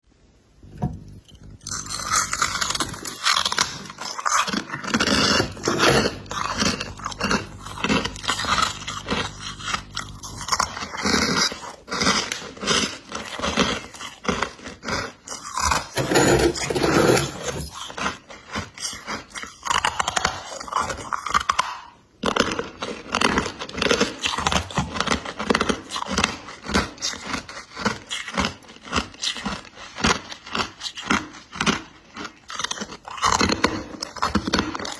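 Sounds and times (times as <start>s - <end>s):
crunching frost being chewed: 0.8s - 34.9s.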